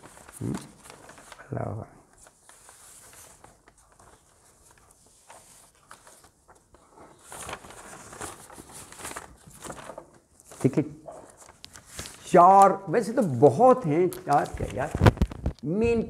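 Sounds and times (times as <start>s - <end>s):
paper rustling and crackling: 0.0s - 15.7s.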